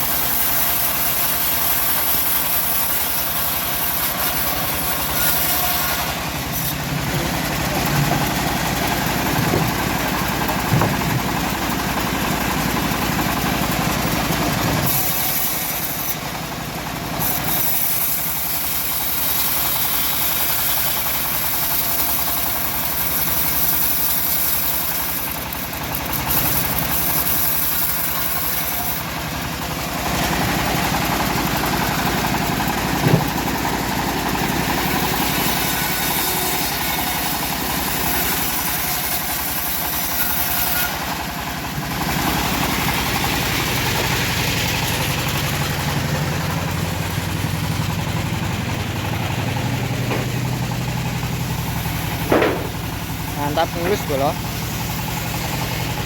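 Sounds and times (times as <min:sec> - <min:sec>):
bandsaw sawmill cutting log: 0:00.0 - 0:56.0.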